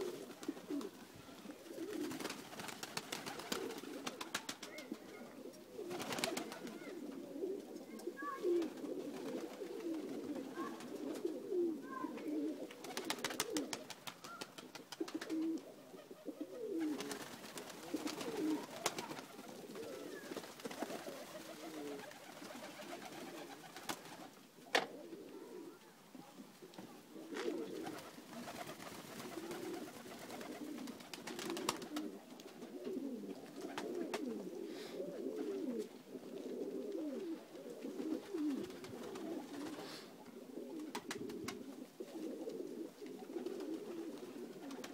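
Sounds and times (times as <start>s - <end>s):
pigeons cooing: 0.0s - 25.9s, 26.6s - 44.9s.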